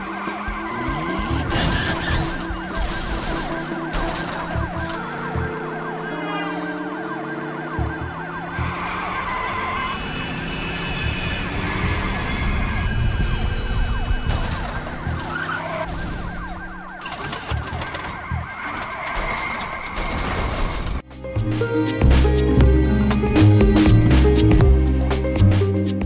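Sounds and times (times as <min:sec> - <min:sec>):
cars driving: 0:00.0 - 0:21.0
police sirens wailing: 0:00.0 - 0:21.0.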